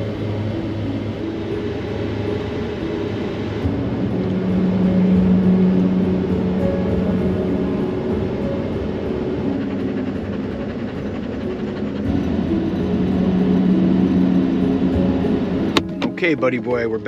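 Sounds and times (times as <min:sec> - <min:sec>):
car cabin road noise: 0:00.0 - 0:17.0
constant low hum: 0:00.0 - 0:17.0.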